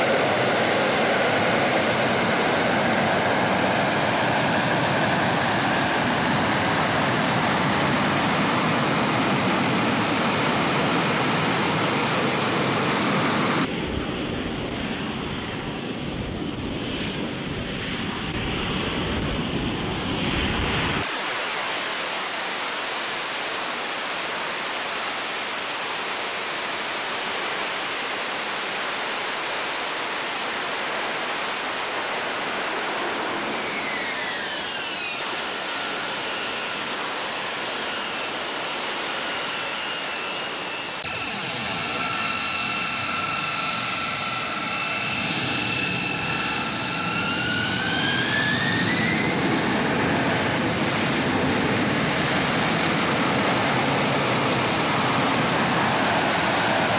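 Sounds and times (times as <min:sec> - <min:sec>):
jet engine roar and whine: 0:00.0 - 0:56.9.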